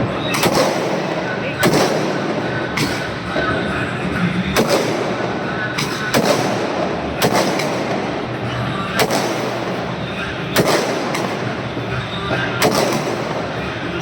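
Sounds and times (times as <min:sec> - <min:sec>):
continuous noisy din: 0:00.0 - 0:14.0
firework shells banging: 0:00.0 - 0:14.0.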